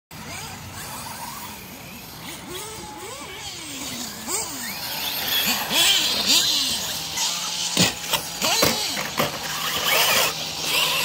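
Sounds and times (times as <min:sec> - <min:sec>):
rc car motors revving: 0:00.1 - 0:11.0.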